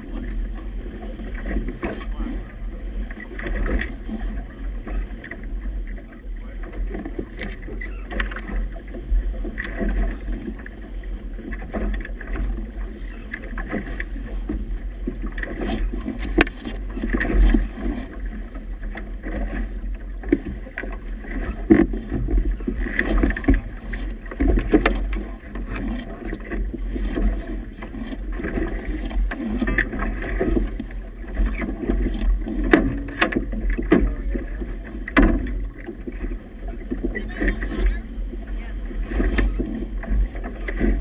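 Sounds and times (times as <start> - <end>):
water slapping against boat hull: 0.0 - 41.0.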